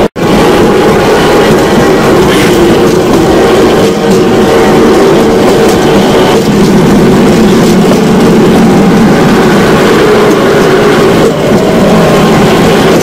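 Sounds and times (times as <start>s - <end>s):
metal wheels rattling on rails: 0.0s - 13.0s.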